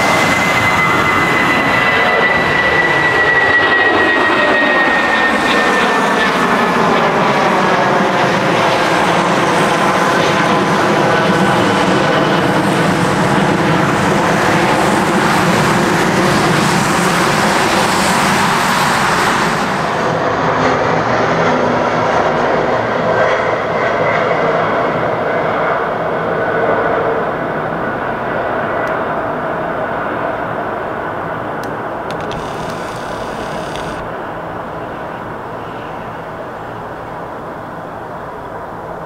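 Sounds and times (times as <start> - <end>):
jet airliner engine noise: 0.0 - 39.0.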